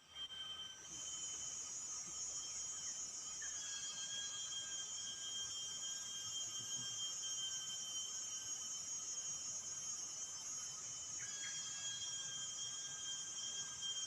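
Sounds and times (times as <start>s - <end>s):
insect chorus: 0.9s - 14.0s.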